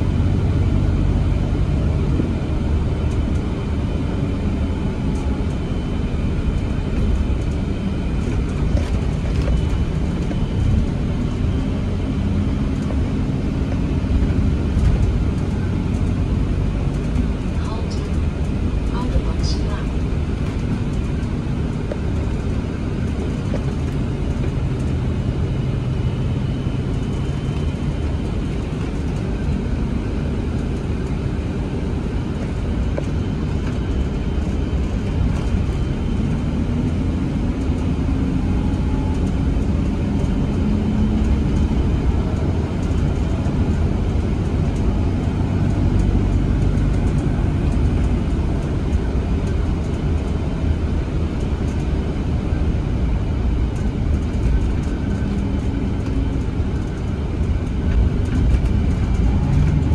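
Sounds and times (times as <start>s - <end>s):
bus engine and road rumble: 0.0s - 59.9s.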